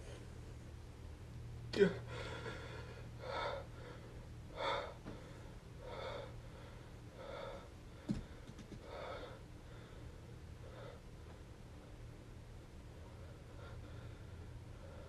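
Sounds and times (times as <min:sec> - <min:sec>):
man breathing heavily: 0:01.8 - 0:15.0.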